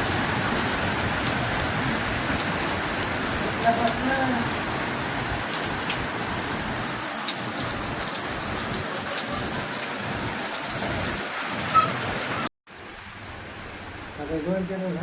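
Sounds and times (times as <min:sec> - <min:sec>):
heavy rain falling: 0:00.0 - 0:15.0
raindrops hitting a surface: 0:00.0 - 0:15.0.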